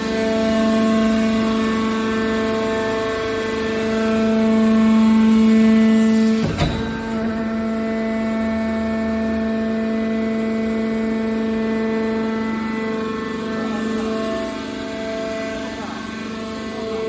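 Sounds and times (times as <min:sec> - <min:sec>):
hydraulic pump motor hum: 0:00.0 - 0:17.0.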